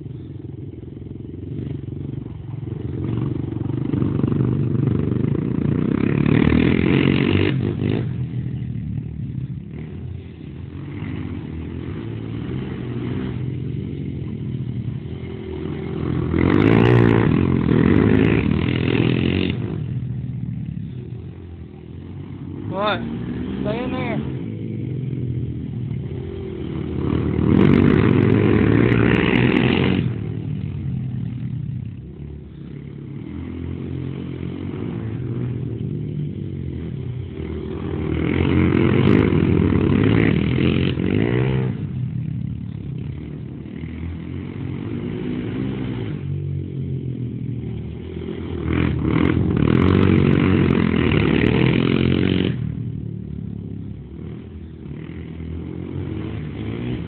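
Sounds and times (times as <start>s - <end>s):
quad engines revving: 0.0s - 57.0s.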